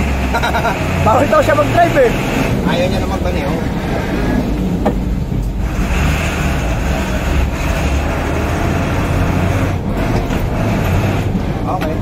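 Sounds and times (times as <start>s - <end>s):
road noise: 0.0s - 12.0s
truck engine rumbling: 0.0s - 12.0s.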